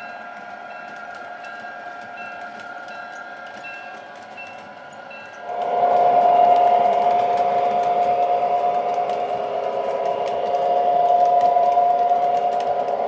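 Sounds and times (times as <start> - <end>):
model train humming: 0.0 - 13.0
wheels clicking on rails: 0.0 - 13.0.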